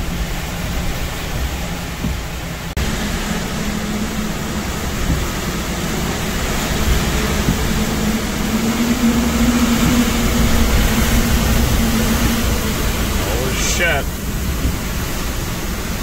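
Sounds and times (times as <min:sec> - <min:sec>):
wind and driving rain roaring: 0:00.0 - 0:16.0
steady low hum: 0:02.4 - 0:16.0.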